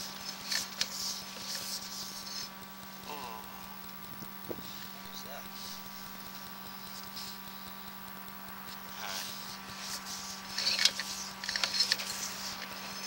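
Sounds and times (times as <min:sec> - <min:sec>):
faint hiss: 0:00.0 - 0:13.0
scratchy clicks and crackles: 0:00.0 - 0:13.0
steady electrical hum: 0:00.0 - 0:13.0.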